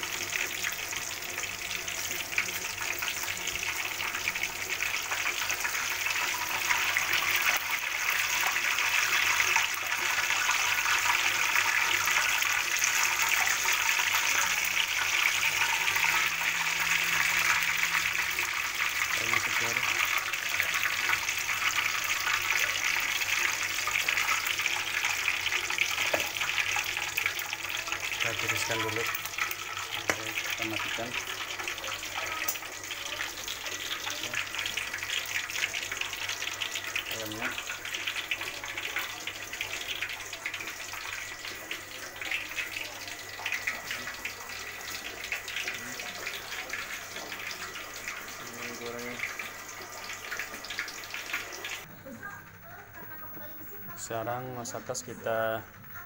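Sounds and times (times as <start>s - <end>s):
deep-frying sizzle: 0.0s - 53.2s.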